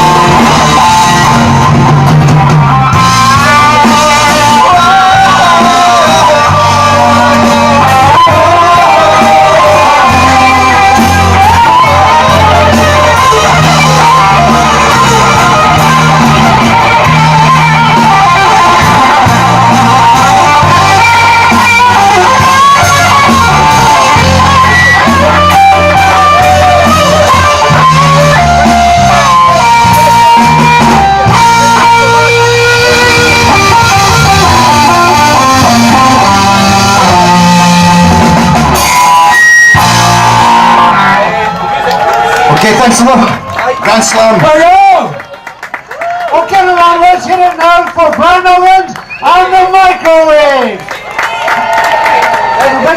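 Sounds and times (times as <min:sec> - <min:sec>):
bass line: 0:00.0 - 0:45.0
electric guitar: 0:00.0 - 0:52.9
live rock band playing: 0:00.0 - 0:52.9.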